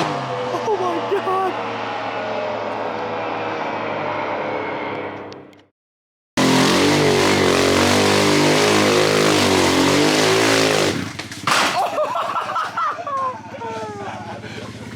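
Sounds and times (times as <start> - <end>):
vehicle engine at high revs: 0.0 - 5.7, 6.4 - 11.7, 12.5 - 14.9.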